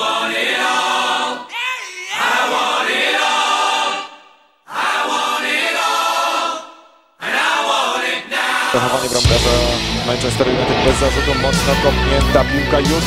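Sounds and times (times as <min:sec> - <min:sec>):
choir singing sustained chords: 0:00.0 - 0:01.6, 0:02.2 - 0:12.1.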